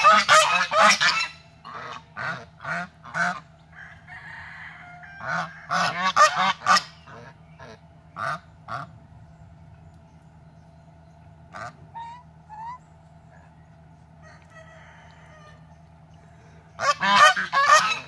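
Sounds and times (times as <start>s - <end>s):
geese honking: 0.0s - 9.1s, 11.5s - 18.0s.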